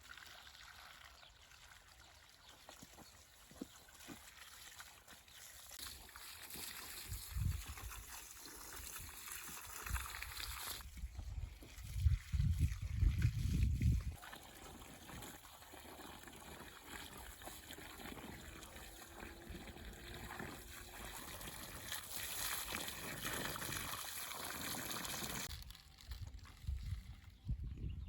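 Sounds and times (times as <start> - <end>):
water trickling: 0.0 - 10.9, 11.5 - 27.3.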